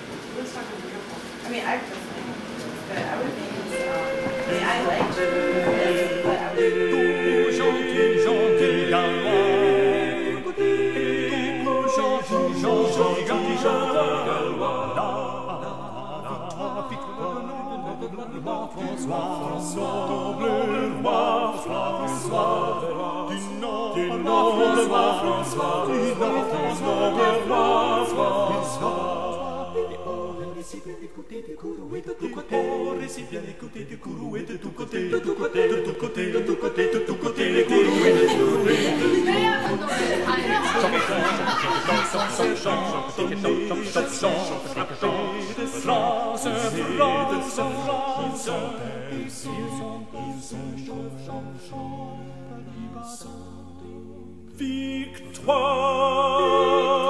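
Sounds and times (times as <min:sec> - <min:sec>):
choir singing: 0:03.2 - 0:57.0.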